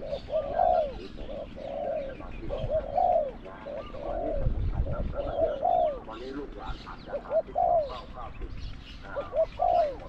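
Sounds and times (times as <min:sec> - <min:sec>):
dove cooing: 0:00.0 - 0:10.0.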